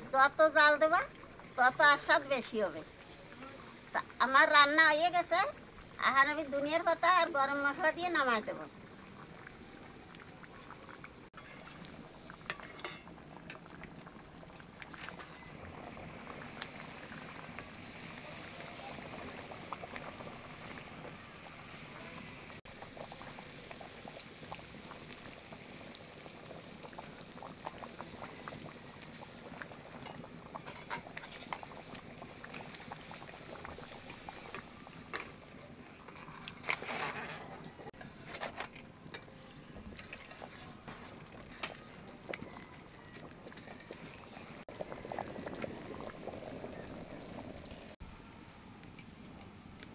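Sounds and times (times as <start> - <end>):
curry bubbling in a pot: 0.1 - 38.0, 39.0 - 49.9.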